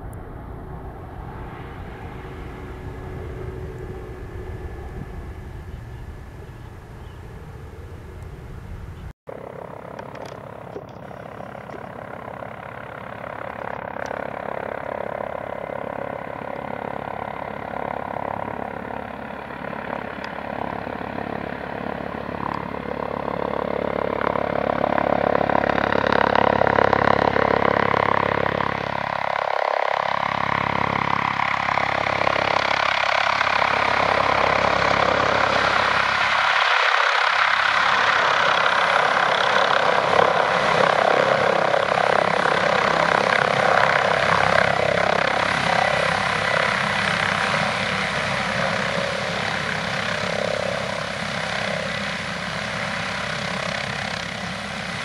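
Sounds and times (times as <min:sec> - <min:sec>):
helicopter hovering: 0:00.0 - 0:55.0.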